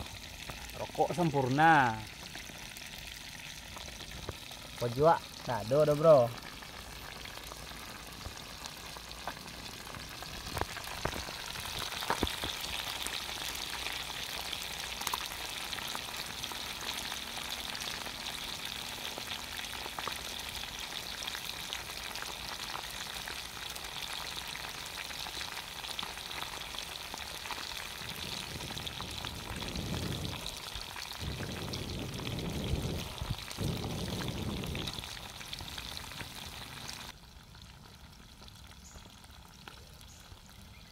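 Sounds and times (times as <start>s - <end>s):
fish deep-frying in oil: 0.0s - 40.9s.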